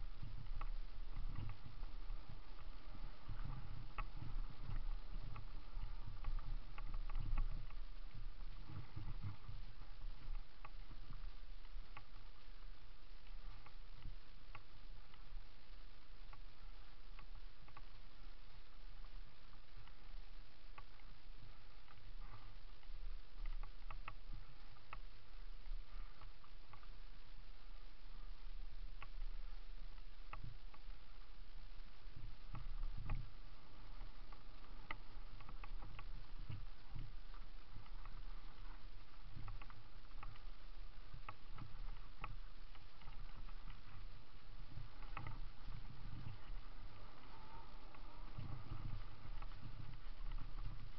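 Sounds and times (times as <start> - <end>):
mountain bike rolling on dirt: 0.0 - 50.9
wind on microphone: 0.0 - 50.9.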